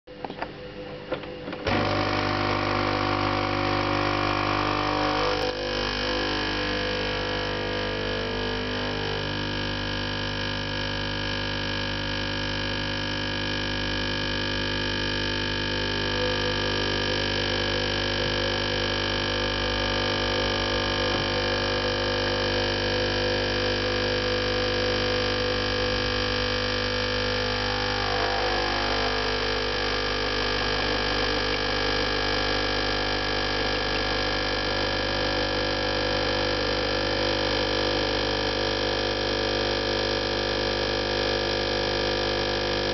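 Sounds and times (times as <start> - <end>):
espresso machine pump buzzing: 0.1 - 42.9.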